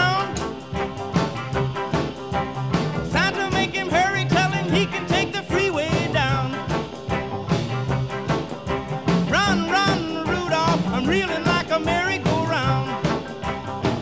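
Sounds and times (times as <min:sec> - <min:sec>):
rock and roll music: 0:00.0 - 0:14.0.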